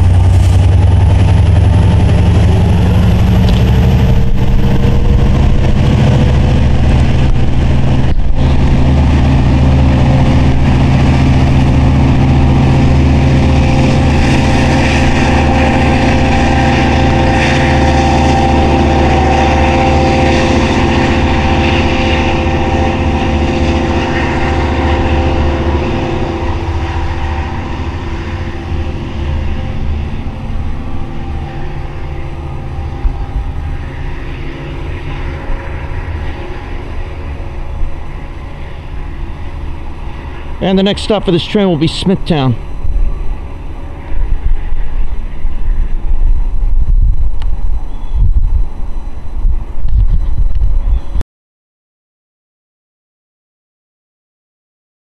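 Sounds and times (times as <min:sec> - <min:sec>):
diesel locomotive engine drone: 0:00.0 - 0:51.2.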